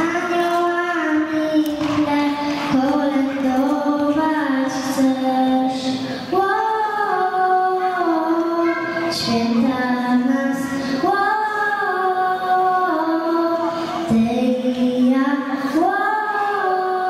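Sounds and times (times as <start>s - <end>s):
girl singing into a microphone: 0.0s - 17.0s.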